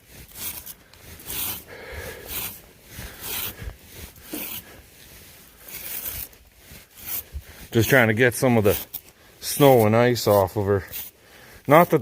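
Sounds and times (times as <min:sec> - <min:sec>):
snow rubbed off pony's coat: 0:00.0 - 0:12.0.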